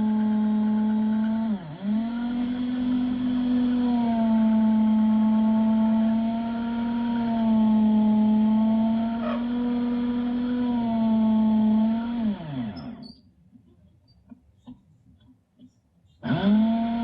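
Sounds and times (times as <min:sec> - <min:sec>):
electric drill boring into concrete: 0:00.0 - 0:13.1, 0:16.2 - 0:17.0.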